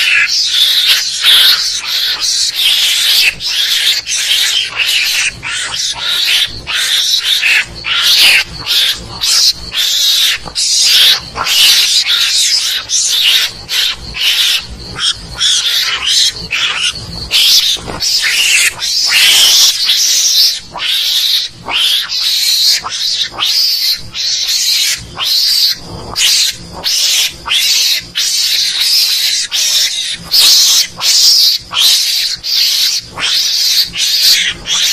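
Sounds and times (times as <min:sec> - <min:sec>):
mongoose shrill raspy calls: 0:00.0 - 0:34.9.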